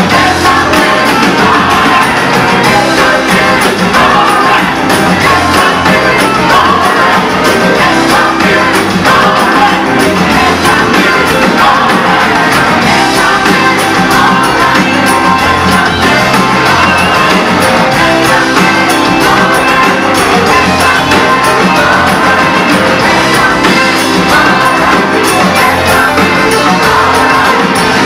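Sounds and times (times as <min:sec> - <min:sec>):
group of singers singing: 0:00.0 - 0:28.0
singers shouting: 0:00.0 - 0:28.0
soul-rock band playing: 0:00.0 - 0:28.0
steady drum beat: 0:00.0 - 0:28.0.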